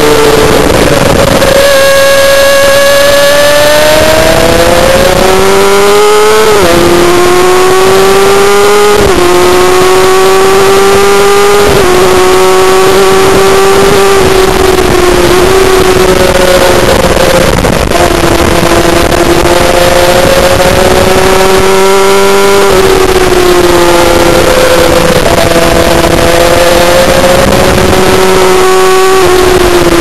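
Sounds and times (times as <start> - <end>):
racing motorcycle engine accelerating: 0.0 - 30.0.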